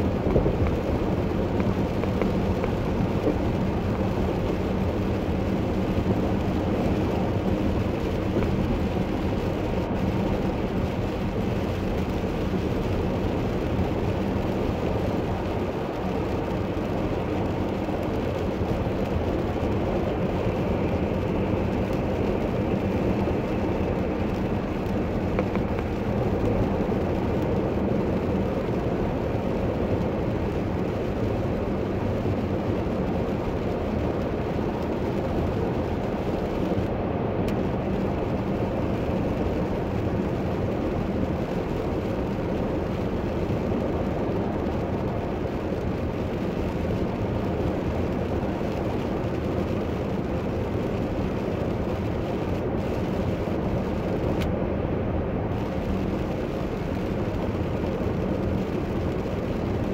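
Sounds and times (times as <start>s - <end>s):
car engine: 0.0s - 59.9s
tyres on wet road: 0.0s - 59.9s.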